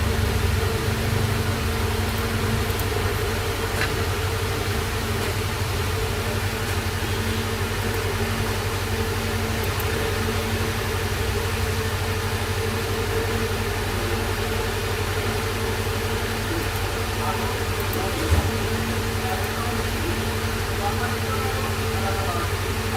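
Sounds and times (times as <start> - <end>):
faint constant tones: 0.0 - 22.9
low machine hum: 0.0 - 22.9.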